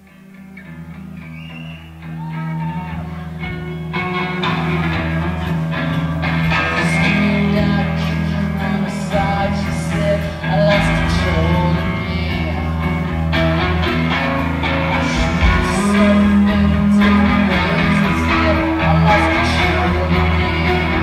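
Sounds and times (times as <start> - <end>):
guitar: 0.0 - 21.0
rock song: 0.0 - 21.0
person singing: 2.2 - 21.0.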